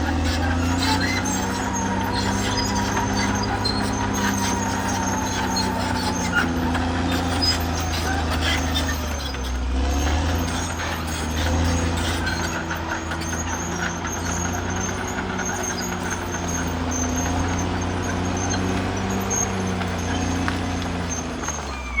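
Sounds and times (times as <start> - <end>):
bulldozer diesel engine running: 0.0 - 22.0
high-pitched squeal: 0.0 - 22.0.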